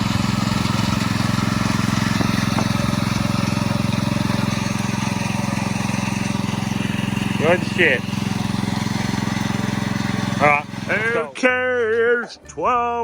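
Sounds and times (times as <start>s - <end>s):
power trowel engine running: 0.0s - 11.4s.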